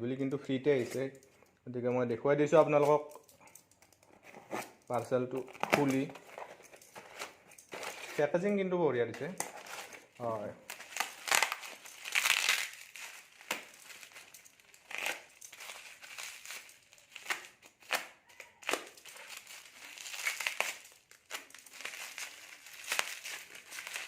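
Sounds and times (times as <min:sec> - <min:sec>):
packaging crinkling and rustling: 0:04.0 - 0:08.5, 0:09.2 - 0:24.0.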